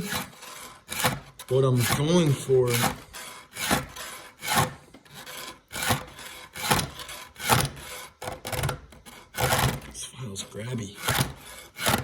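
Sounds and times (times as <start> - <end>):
file rasping on chain teeth: 0.0 - 12.0.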